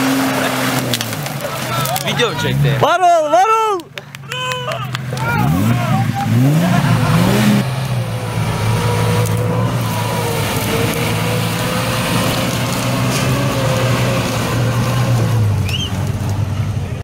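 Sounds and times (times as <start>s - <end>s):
engine revving: 0.0s - 3.0s, 4.8s - 17.0s
engine running: 0.0s - 3.0s, 3.9s - 17.0s.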